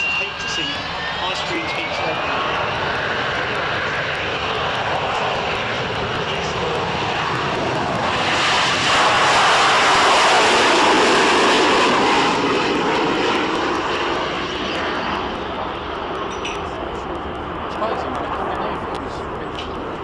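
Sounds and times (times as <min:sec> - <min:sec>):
jet flying past: 0:00.0 - 0:20.0.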